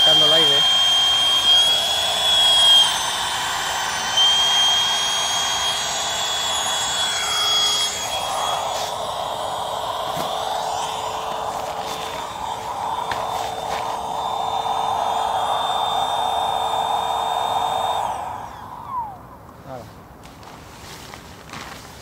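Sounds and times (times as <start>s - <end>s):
electric air pump whining: 0.0s - 19.8s.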